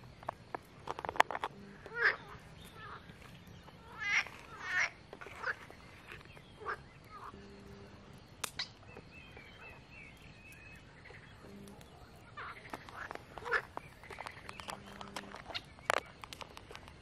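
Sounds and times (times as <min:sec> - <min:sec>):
faint bird chirps: 0:01.5 - 0:17.0.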